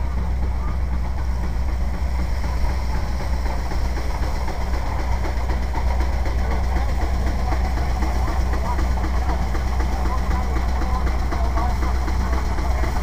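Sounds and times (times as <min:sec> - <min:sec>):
steam engine driving thresher rumble: 0:00.0 - 0:13.0.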